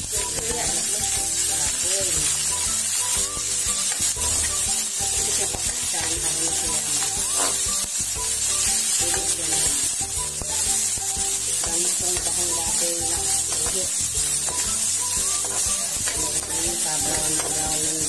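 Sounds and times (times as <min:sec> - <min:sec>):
background music: 0:00.0 - 0:18.0
food sizzling in hot oil: 0:00.0 - 0:18.0
metal spatula scraping wok: 0:02.2 - 0:11.1, 0:11.8 - 0:17.8.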